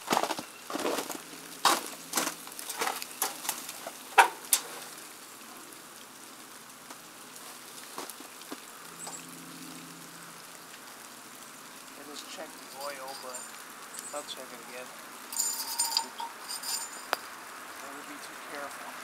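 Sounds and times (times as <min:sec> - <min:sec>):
faint dripping from melting ice: 0:01.3 - 0:18.8.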